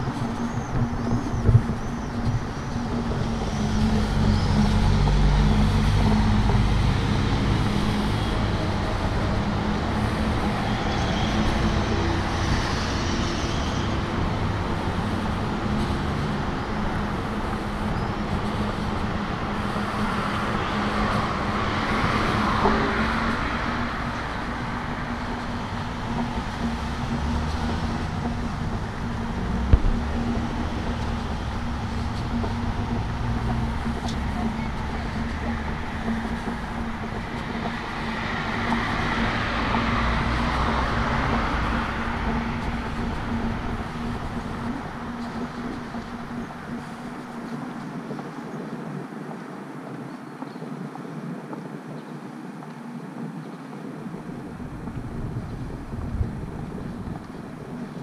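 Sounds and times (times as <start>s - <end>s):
heavy vehicle rumble: 0.0s - 48.2s, 53.8s - 58.0s
low engine hum: 0.0s - 50.0s, 51.0s - 58.0s
vehicles passing: 0.0s - 58.0s.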